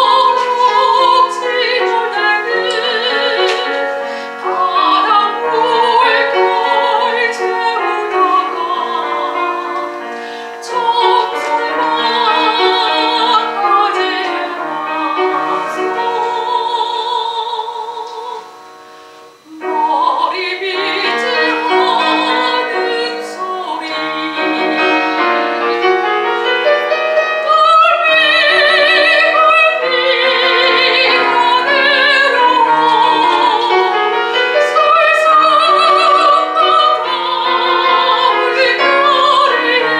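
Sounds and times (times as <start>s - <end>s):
piano accompaniment: 0.0s - 39.9s
soprano singing operatic song: 0.0s - 39.9s.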